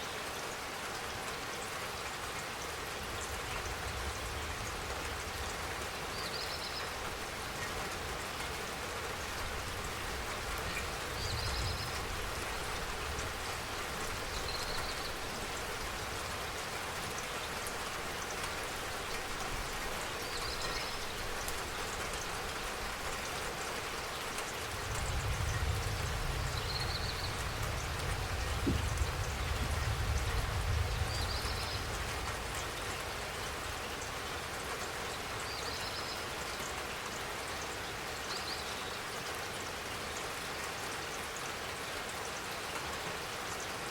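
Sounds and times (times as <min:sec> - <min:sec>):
rain pattering: 0:00.0 - 0:43.9.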